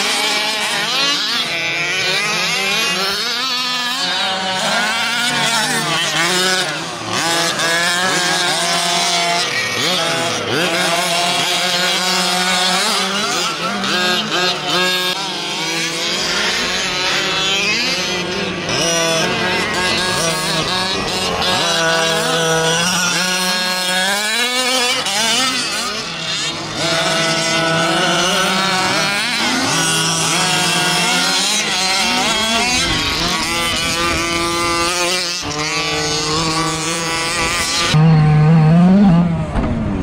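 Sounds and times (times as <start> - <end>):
rc car engines revving: 0.0 - 40.0.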